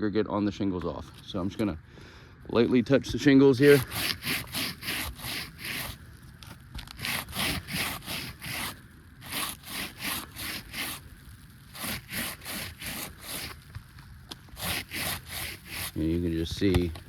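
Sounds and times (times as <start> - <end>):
rubbing on asphalt shingles: 3.0 - 17.0.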